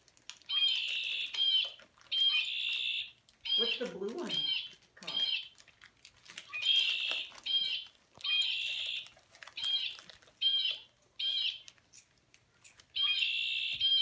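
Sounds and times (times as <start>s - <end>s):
toy bird calls: 0.4s - 5.6s, 6.4s - 11.7s, 13.0s - 14.0s.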